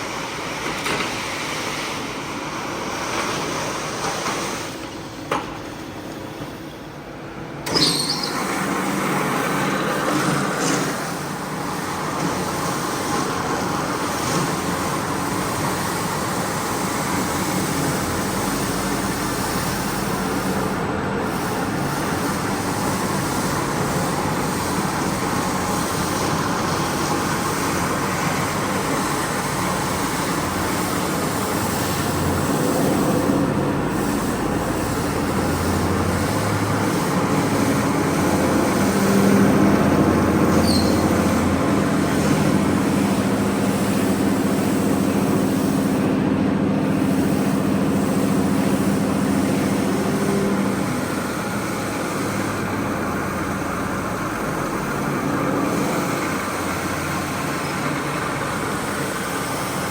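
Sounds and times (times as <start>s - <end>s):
carpet-cleaning machine running: 0.0s - 59.9s.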